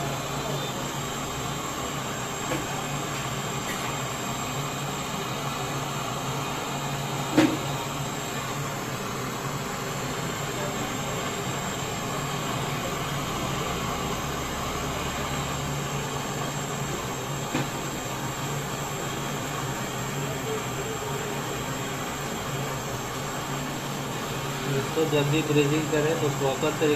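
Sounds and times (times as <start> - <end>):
torch flame hissing: 0.0 - 26.9.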